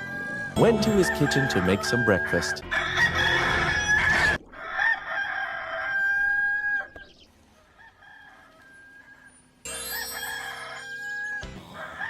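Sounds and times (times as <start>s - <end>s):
rooster crowing: 0.0s - 6.9s, 7.6s - 12.0s.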